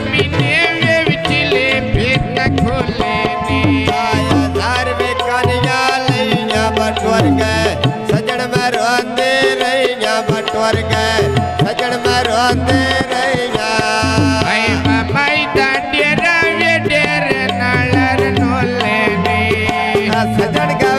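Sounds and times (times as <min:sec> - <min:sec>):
hand drum rhythm: 0:00.0 - 0:20.9
man singing: 0:00.0 - 0:20.9.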